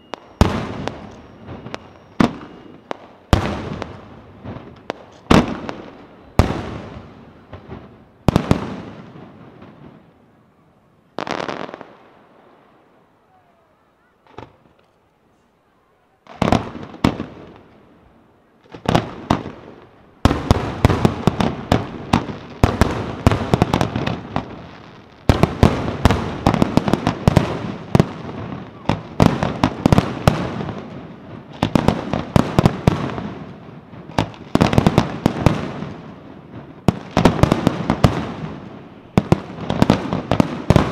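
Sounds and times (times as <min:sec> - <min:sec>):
firework crackles: 0:00.0 - 0:40.9.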